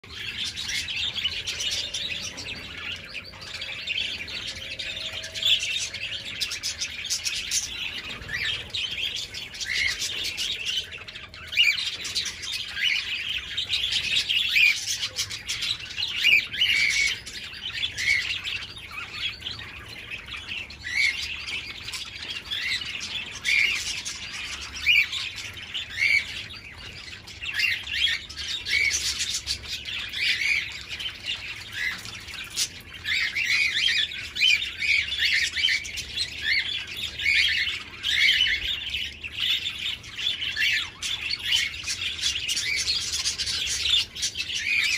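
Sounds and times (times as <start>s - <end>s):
budgerigars chattering: 0.0s - 44.9s.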